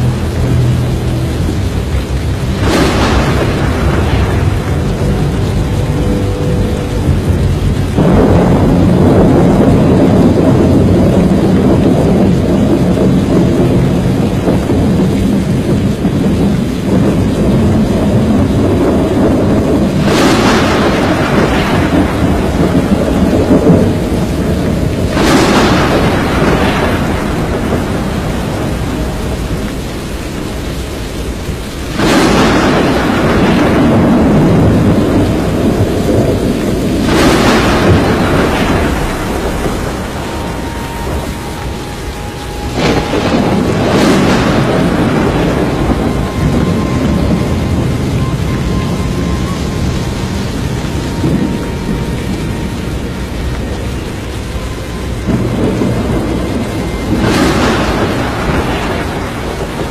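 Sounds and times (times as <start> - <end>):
heavy rain: 0.0 - 59.9
storm wind: 0.0 - 59.9
thunder crashes: 0.0 - 59.9.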